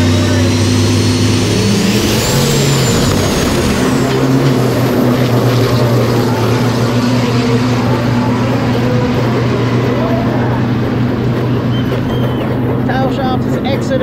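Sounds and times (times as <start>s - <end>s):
high whine sliding down: 0.0s - 13.4s
car engine running: 0.0s - 14.0s.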